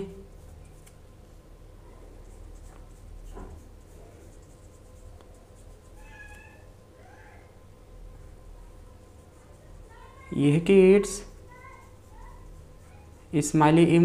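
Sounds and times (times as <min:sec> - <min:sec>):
paintbrush strokes on paper: 0:00.0 - 0:06.7, 0:08.2 - 0:14.0
low steady hum: 0:00.0 - 0:14.0.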